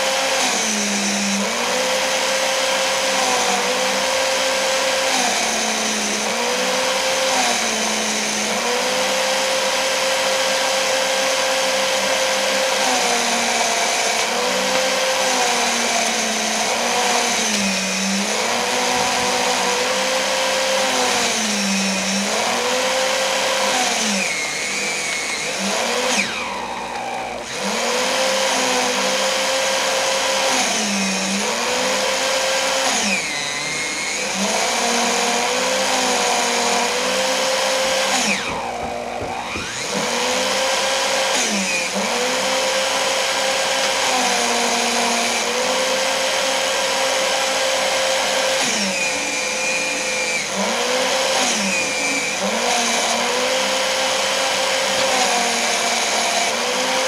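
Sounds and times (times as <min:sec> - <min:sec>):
paper shredder cutting paper: 0:00.0 - 0:57.0.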